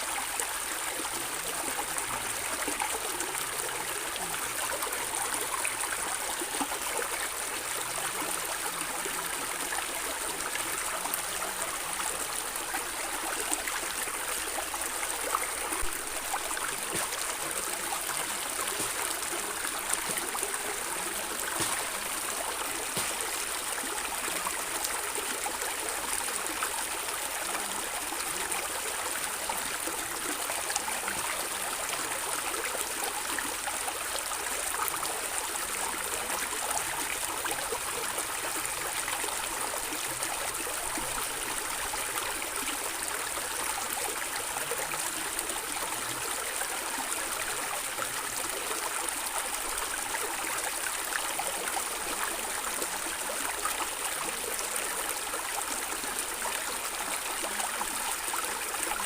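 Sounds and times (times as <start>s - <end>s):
water flowing over stones: 0.0s - 59.0s.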